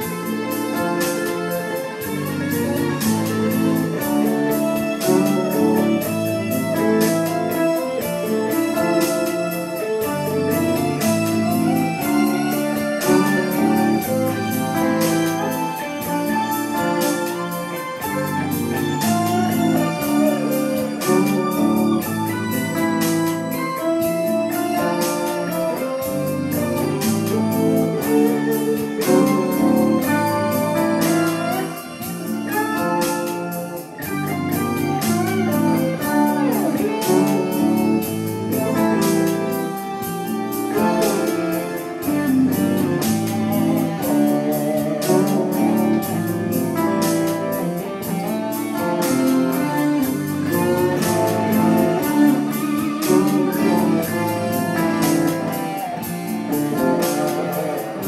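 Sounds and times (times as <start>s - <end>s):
electric guitar through amplifier: 0.0s - 58.0s.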